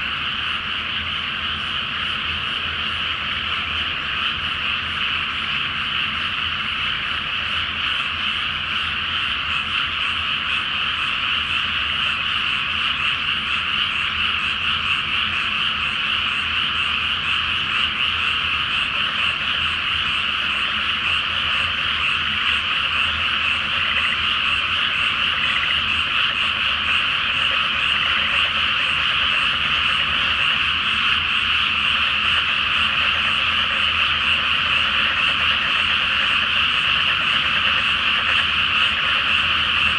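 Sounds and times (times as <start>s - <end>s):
chorus of frogs croaking: 0.0s - 39.9s.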